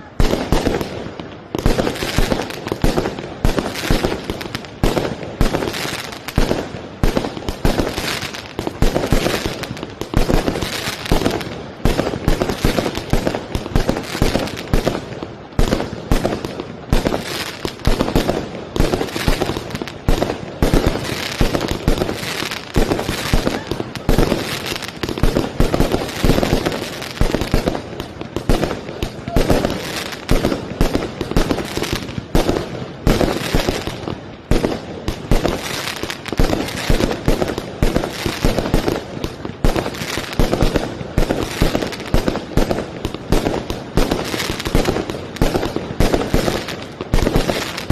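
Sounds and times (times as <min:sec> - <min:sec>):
fireworks bangs and thumps: 0:00.0 - 0:47.9.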